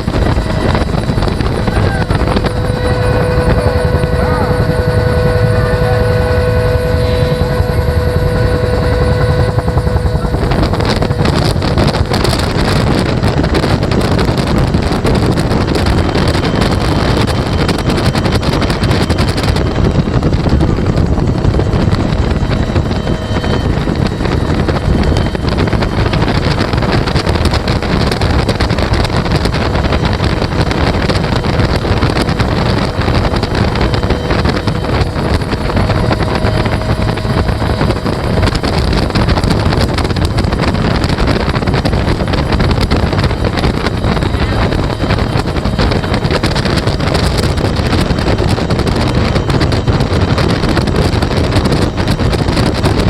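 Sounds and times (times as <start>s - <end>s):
helicopter rotor and turbine din: 0.0s - 53.0s
steady whine: 0.0s - 53.0s
wind buffeting microphone: 0.0s - 53.0s.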